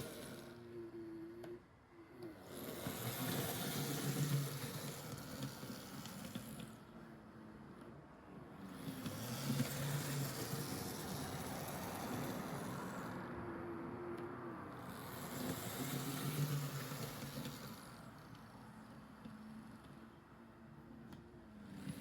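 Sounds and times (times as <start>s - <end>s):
model train wheels rumbling: 0.0s - 0.8s, 2.2s - 7.8s, 8.4s - 13.4s, 14.7s - 22.0s
small electric motor humming: 0.0s - 7.6s, 8.6s - 13.4s, 14.7s - 22.0s.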